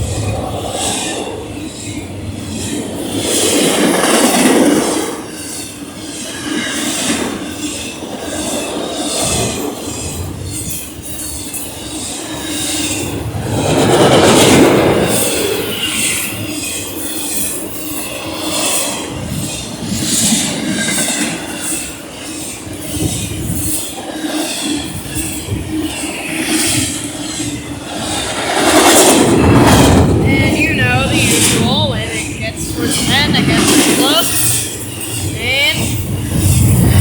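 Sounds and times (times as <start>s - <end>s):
train wheels on rail: 0.0s - 37.0s.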